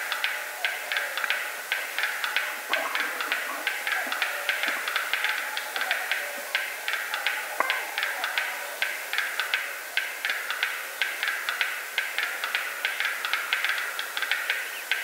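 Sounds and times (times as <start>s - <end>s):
bird dry clicking display song: 0.0s - 15.0s
steady hiss: 0.0s - 15.0s.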